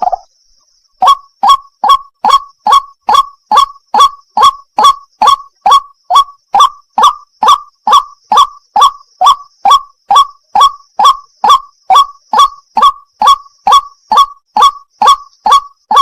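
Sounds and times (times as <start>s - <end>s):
waterhen calling: 0.0s - 0.3s, 1.0s - 16.0s.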